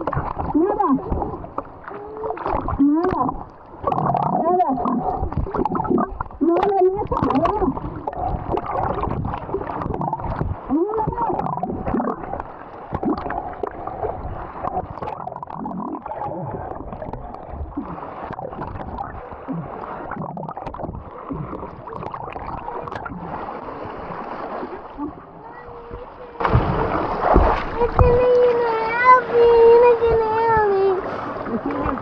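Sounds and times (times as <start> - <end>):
wavering bubbly tones: 0.0 - 26.5
muffled water sloshing underwater: 0.0 - 32.0.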